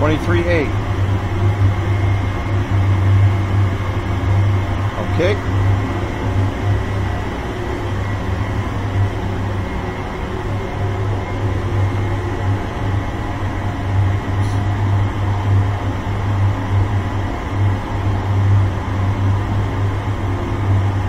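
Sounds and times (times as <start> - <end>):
gas burner flames rumbling: 0.0 - 21.0.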